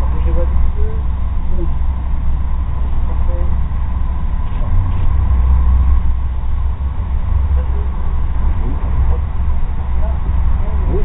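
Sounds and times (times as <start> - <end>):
faint steady whine: 0.0 - 11.0
train rumble inside coach: 0.0 - 11.0.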